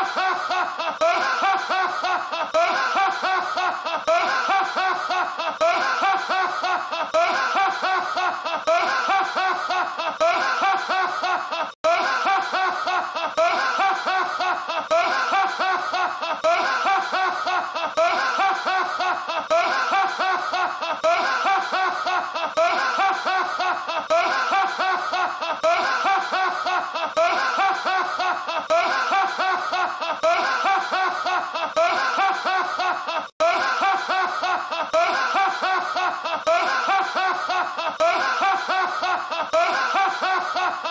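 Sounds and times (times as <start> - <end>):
man laughing loudly: 0.0 - 40.9.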